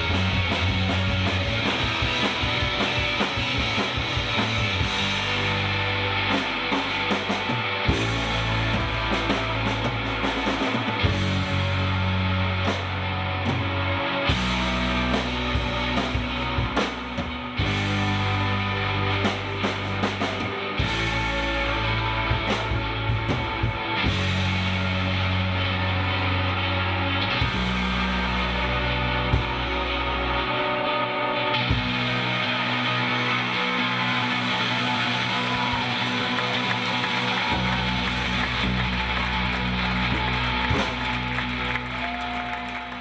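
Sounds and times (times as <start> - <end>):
held bass notes: 0.0 - 43.0
live rock band playing: 0.0 - 43.0.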